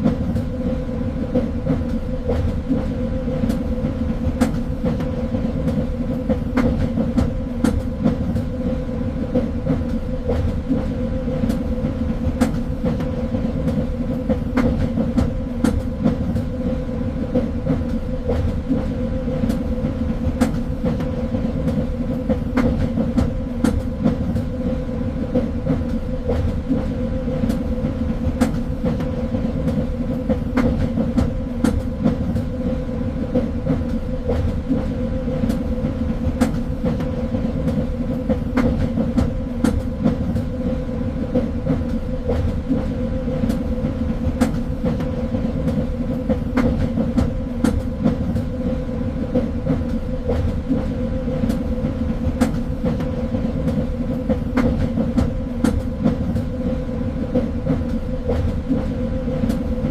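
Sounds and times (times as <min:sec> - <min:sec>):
train rumbling on track: 0:00.0 - 0:59.9.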